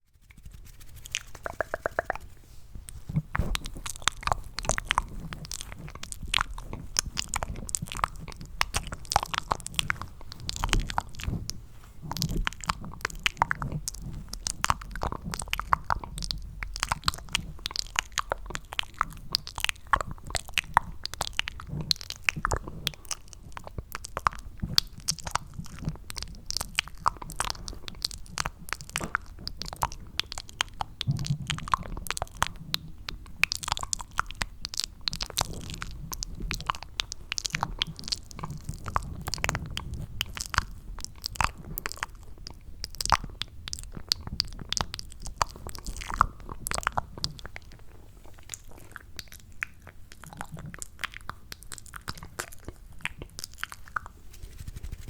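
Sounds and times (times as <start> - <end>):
wet mouth clicks and smacks: 0.2 - 55.0.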